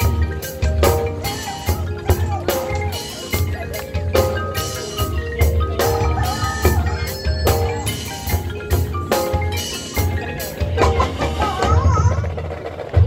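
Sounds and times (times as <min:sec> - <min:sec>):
marimbas and mallet percussion: 0:00.0 - 0:13.0.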